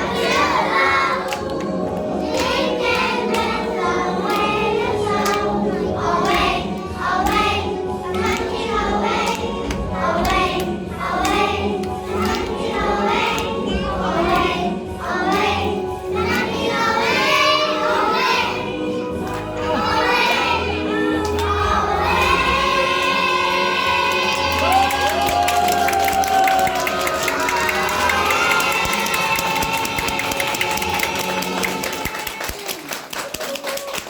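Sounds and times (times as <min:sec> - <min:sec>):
children singing in chorus: 0:00.0 - 0:25.3, 0:26.6 - 0:32.3
musical backing track: 0:00.0 - 0:32.6.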